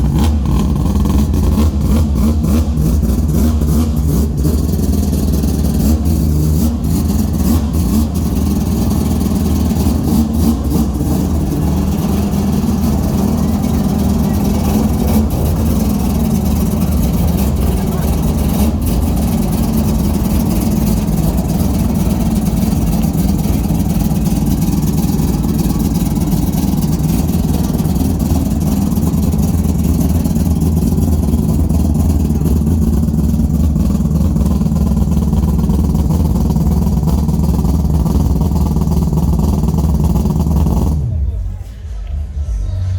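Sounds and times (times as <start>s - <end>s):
rotary engine idling: 0.0s - 42.9s.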